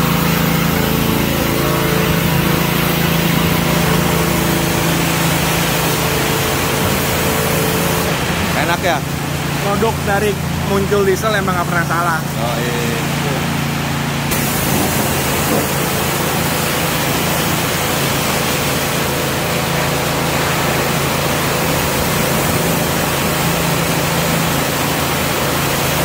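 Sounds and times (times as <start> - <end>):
pressure washer motor hum: 0.0 - 26.0
water jet hissing: 0.0 - 26.0.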